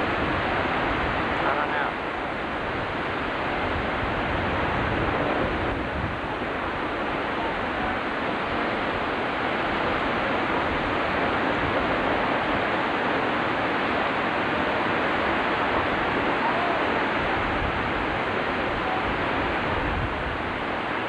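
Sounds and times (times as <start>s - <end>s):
rush of falling water: 0.0s - 21.0s.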